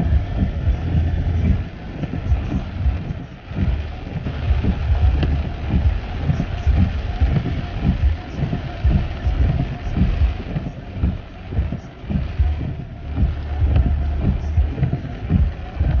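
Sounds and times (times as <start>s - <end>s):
car driving through floodwater: 0.0s - 16.0s.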